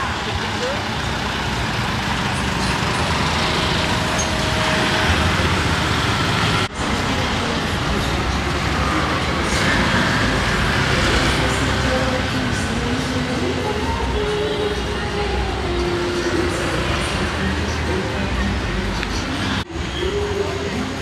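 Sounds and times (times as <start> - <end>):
indistinct voices: 0.0 - 21.0
traffic with vehicles passing: 0.0 - 21.0.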